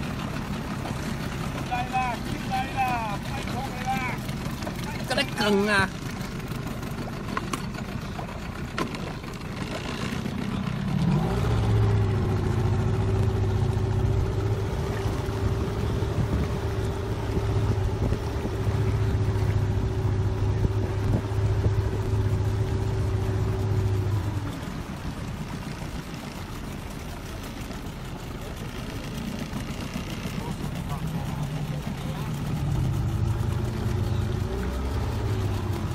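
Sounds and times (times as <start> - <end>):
outboard motor running: 0.0 - 35.9
water washing: 0.0 - 35.9
wind: 0.0 - 35.9.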